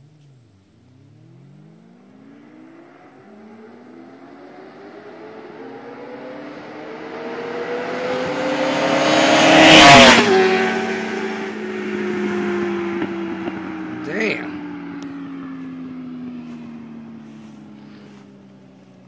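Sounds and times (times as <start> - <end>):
motorcycles accelerating past: 0.4 - 19.0.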